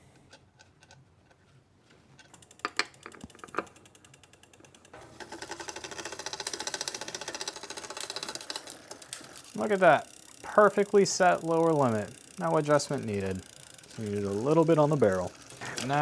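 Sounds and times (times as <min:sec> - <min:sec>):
bicycle drivetrain clicks: 0:02.2 - 0:16.0
chain and freewheel ticking: 0:02.3 - 0:16.0.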